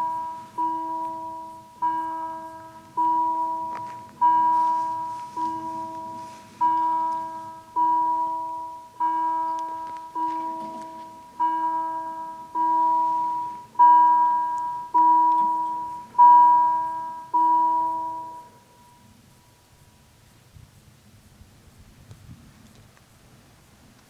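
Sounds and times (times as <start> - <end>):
level crossing warning bell: 0.0 - 19.3.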